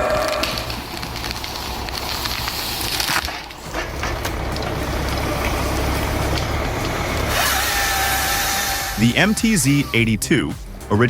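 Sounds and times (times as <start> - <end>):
wood cracking and splintering: 0.0 - 9.8
low engine rumble: 0.0 - 11.0.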